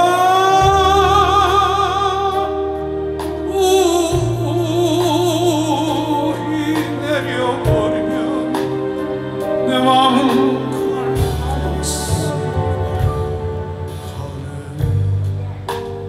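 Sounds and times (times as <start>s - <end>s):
band accompaniment: 0.0s - 16.0s
person singing a slow ballad: 0.0s - 16.0s.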